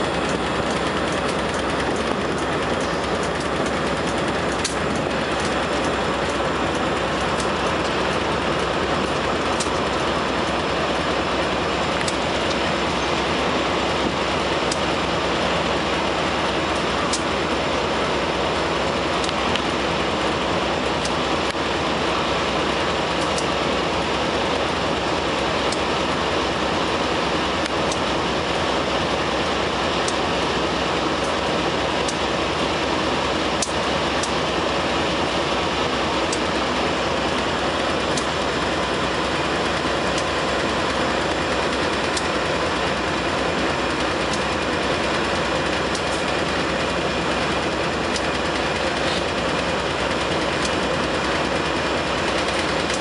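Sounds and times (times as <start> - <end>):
diesel locomotive engine and rolling noise: 0.0 - 53.0.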